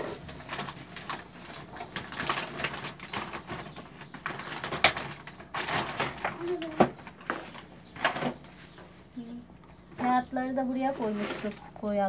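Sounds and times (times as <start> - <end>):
plastic and glass packaging rustling: 0.0 - 8.8, 11.0 - 11.8.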